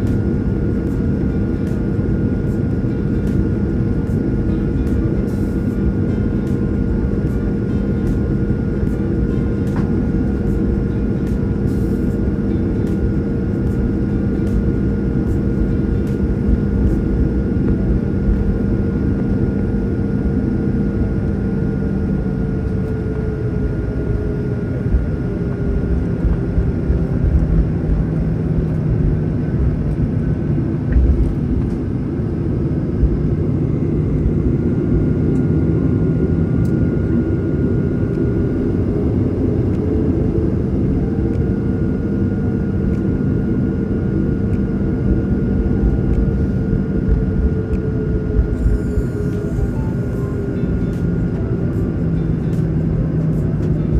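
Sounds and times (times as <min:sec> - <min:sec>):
jet engine drone: 0:00.0 - 0:53.9
low bumpy rumble: 0:00.0 - 0:53.9.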